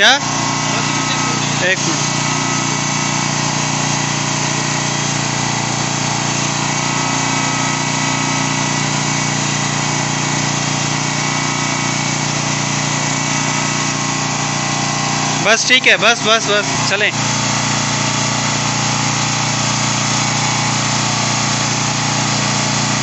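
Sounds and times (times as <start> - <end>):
bed actuator motor humming: 0.0 - 23.0.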